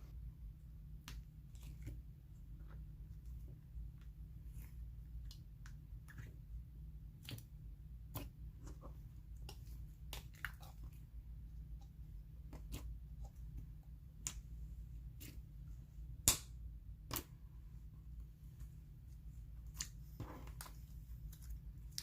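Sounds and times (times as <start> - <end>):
hands kneading slime: 0.0 - 22.0.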